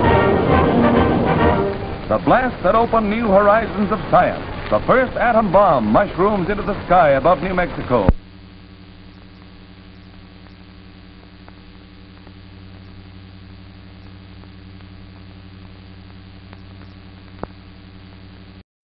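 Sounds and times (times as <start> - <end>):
electrical hum with hiss: 0.0 - 18.6
crackling clicks: 1.7 - 18.6.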